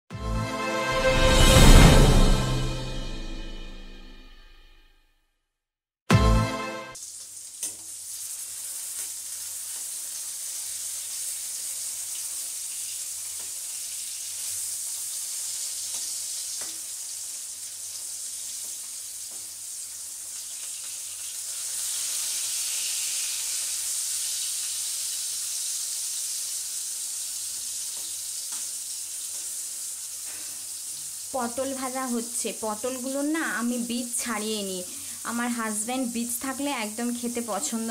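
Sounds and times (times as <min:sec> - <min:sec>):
slices sizzling in hot oil: 0:06.9 - 0:37.9.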